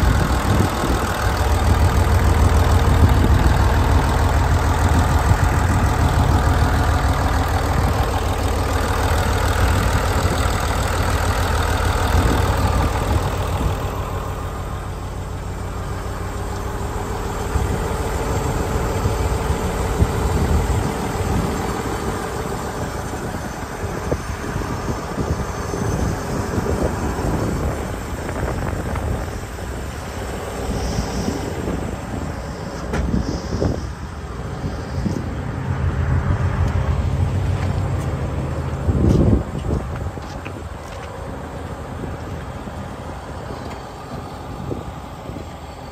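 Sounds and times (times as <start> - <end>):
excavator engine idling: 0.0 - 45.9.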